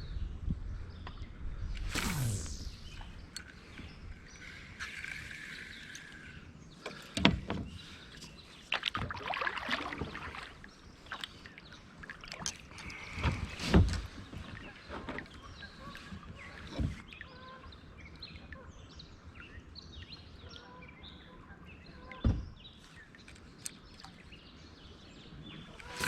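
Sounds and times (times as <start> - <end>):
songbirds chirping and singing: 2.7 - 26.0.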